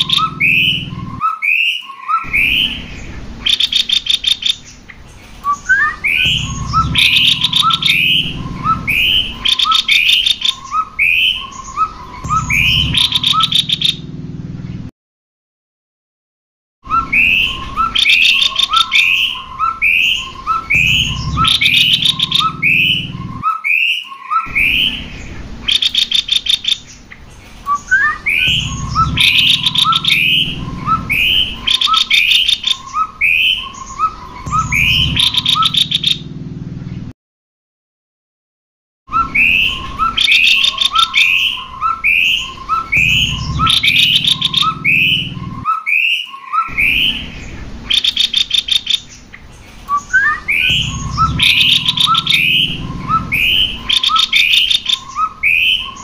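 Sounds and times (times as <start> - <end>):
rapid chattering bird trills: 0.0 - 1.2, 2.1 - 14.0, 17.0 - 36.2, 39.2 - 56.0
birds calling short notes: 0.0 - 14.8, 16.9 - 36.4, 39.1 - 56.0.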